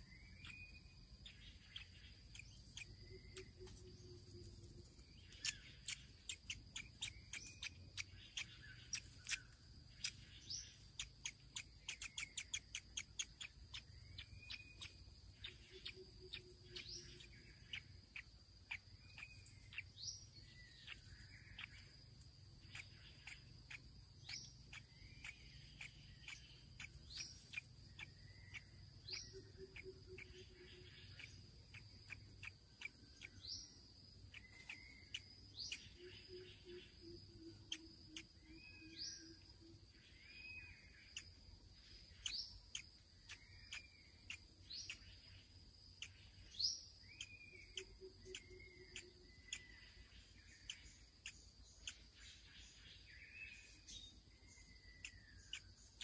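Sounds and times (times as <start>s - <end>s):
soft bird chirps: 0.0s - 56.0s.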